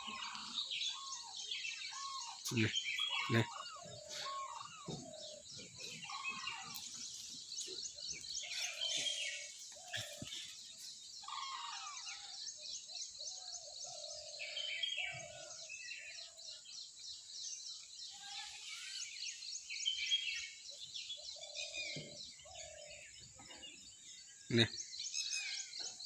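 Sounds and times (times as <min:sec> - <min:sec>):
birds chirping: 0:00.0 - 0:26.0
lower bird calls: 0:00.0 - 0:26.0.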